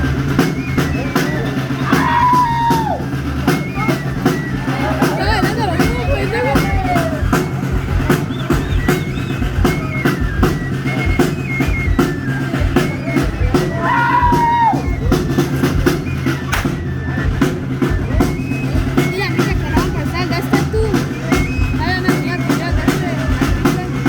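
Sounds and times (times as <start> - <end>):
drum beat: 0.0 - 24.0
high melody: 3.1 - 13.8, 14.8 - 24.0.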